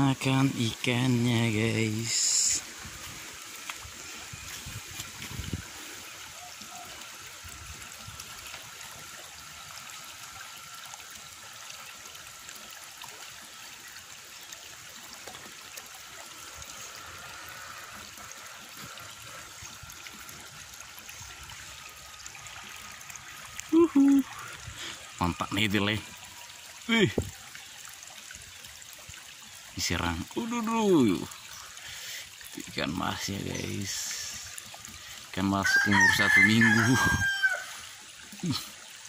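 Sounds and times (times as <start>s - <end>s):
water trickling: 0.0s - 39.0s.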